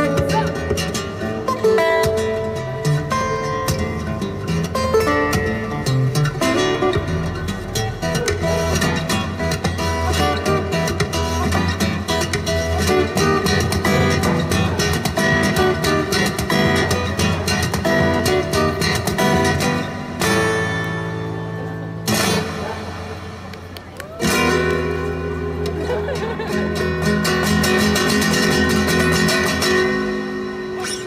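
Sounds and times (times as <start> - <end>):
plucked guitar notes: 0.0 - 31.0.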